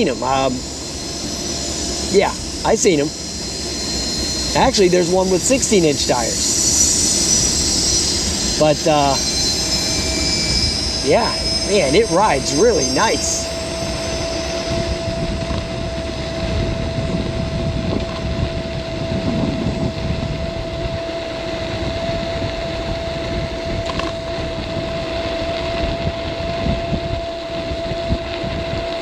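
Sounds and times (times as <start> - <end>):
riding noise rumble: 0.0 - 27.2
electric motor whine: 0.0 - 29.0.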